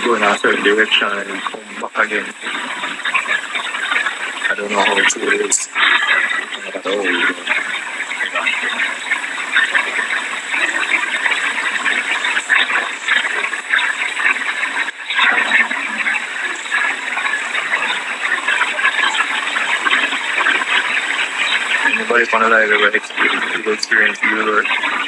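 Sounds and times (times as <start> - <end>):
heavy rain: 0.0 - 25.0.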